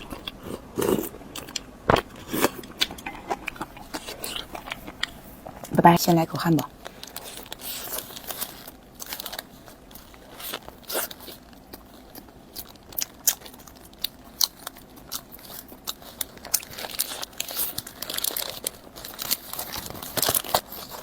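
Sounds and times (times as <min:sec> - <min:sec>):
crunchy chewing of a hamburger: 0:00.0 - 0:05.7, 0:06.7 - 0:21.0.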